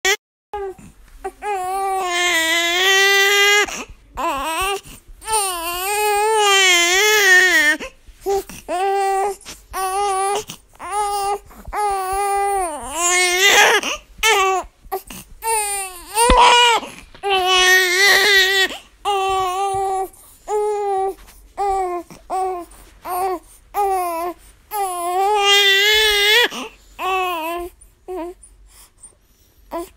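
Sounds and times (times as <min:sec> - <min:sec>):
baby crying: 0:00.1 - 0:07.8, 0:08.7 - 0:28.3.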